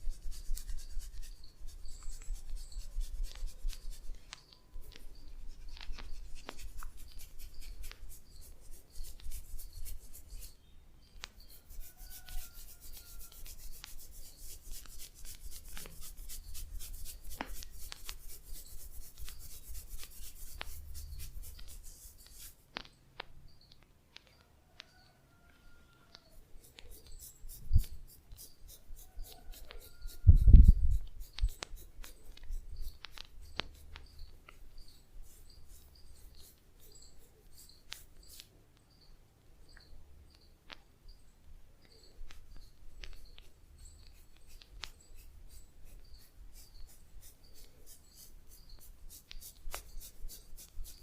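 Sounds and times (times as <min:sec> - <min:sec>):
rubbing over skin and hair: 0:00.0 - 0:10.6, 0:11.2 - 0:23.0, 0:26.2 - 0:38.5, 0:42.1 - 0:51.0.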